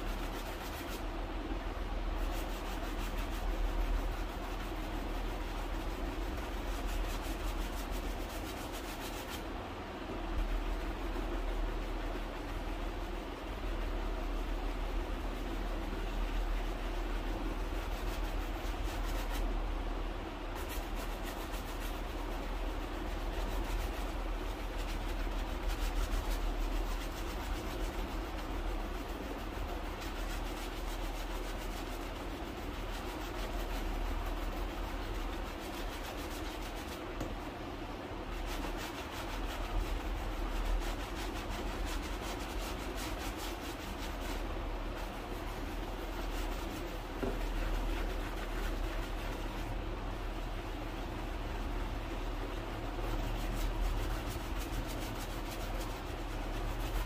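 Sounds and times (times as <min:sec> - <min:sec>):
scratchy rubbing on leather shoe: 0:00.0 - 0:01.1, 0:02.2 - 0:09.5, 0:10.4 - 0:19.8, 0:20.5 - 0:37.5, 0:38.2 - 0:57.0.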